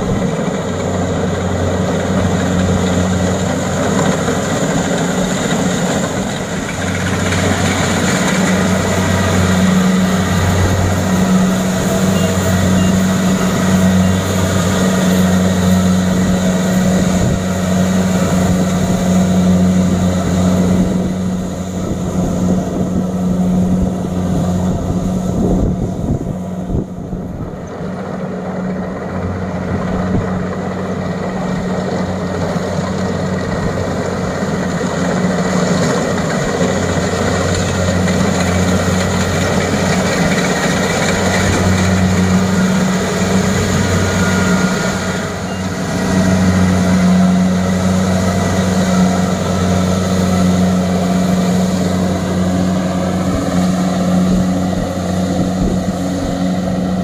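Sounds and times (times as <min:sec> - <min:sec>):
combine harvester engine humming: 0:00.0 - 0:57.0.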